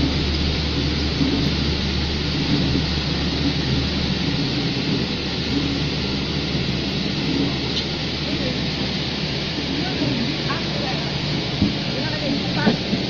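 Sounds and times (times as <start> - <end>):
spraying water hiss: 0.0 - 13.0
washing machine motor hum: 0.0 - 13.0.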